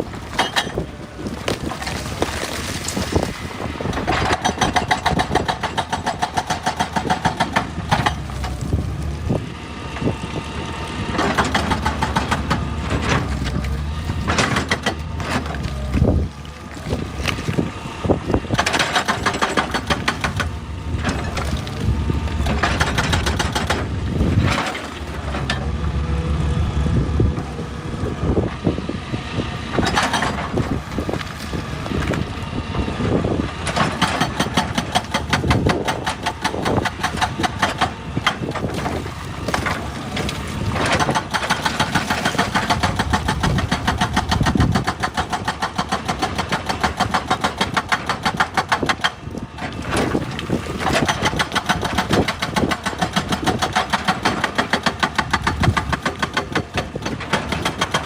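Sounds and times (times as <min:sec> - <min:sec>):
excavator diesel engine running: 0:00.0 - 0:58.0
loud machine work noises: 0:00.0 - 0:58.0.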